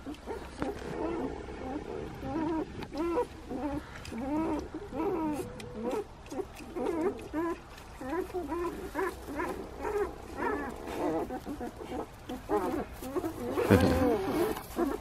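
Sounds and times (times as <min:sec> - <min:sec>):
puppies whimpering and squeaking: 0:00.0 - 0:15.0.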